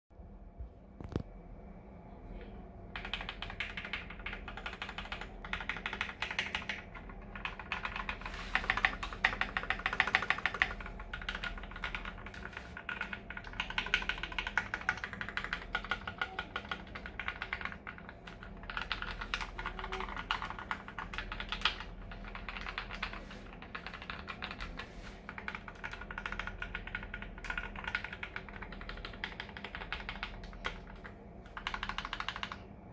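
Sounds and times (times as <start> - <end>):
fast typing on mechanical keyboard: 2.9 - 32.7.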